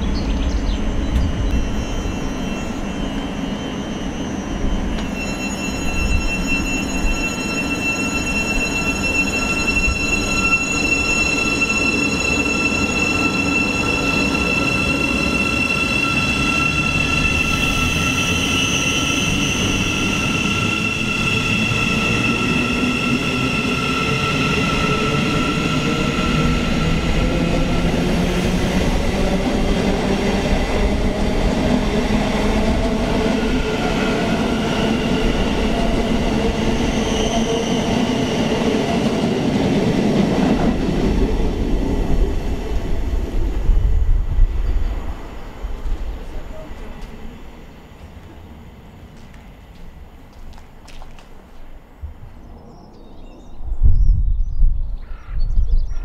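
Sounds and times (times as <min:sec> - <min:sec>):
electric train whine: 0:00.0 - 0:52.7
wheels rumbling on rail: 0:00.0 - 0:54.2.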